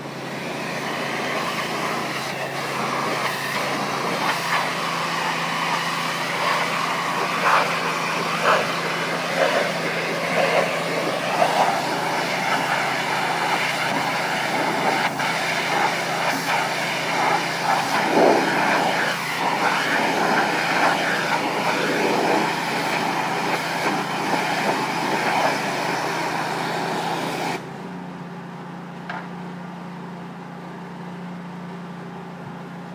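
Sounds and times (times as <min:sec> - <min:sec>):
pressure washer water jet hissing: 0:00.0 - 0:27.7.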